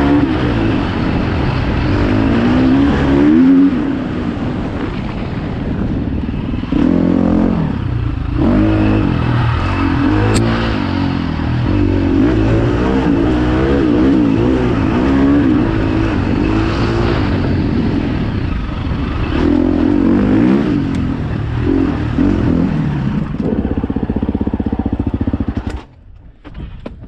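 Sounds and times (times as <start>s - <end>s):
dirt bike engine revving: 0.0s - 4.9s, 5.7s - 25.9s.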